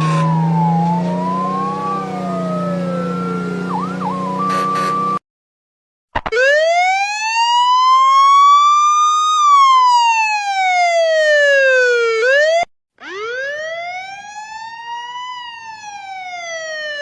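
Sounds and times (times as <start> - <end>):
siren wailing: 0.0 - 5.2, 6.3 - 17.0.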